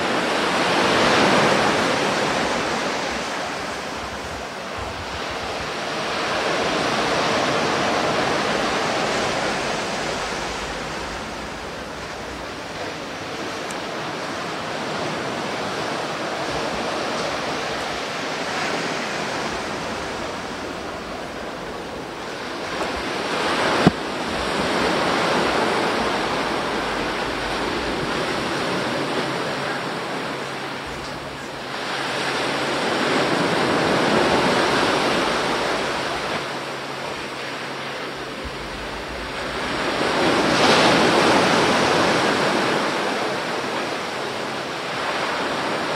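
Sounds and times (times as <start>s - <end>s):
sea waves washing onto beach: 0.0s - 45.9s.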